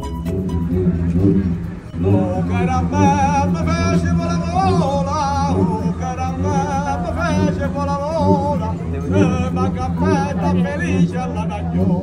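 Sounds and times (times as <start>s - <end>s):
friction drum grunting: 0.2s - 12.0s
man singing with vibrato: 1.8s - 12.0s.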